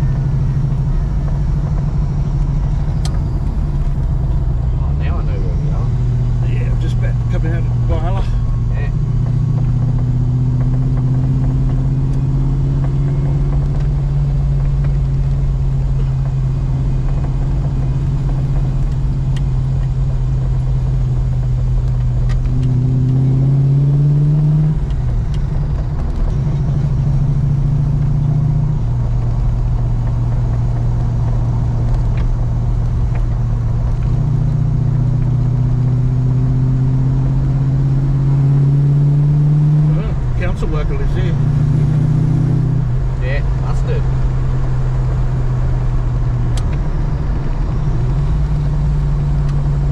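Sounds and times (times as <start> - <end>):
car engine accelerating: 0.0 - 49.9.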